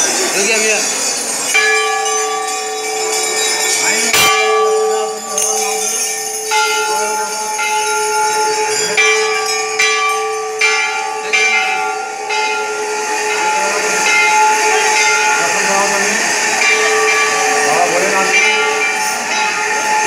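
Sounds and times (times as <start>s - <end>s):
temple bells ringing: 0.0s - 20.0s.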